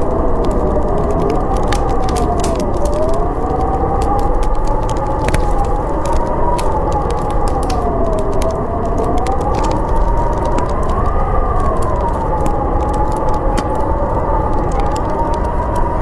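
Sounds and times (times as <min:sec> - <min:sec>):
howling whistling wind: 0:00.0 - 0:16.0
wood fire crackling: 0:00.0 - 0:16.0.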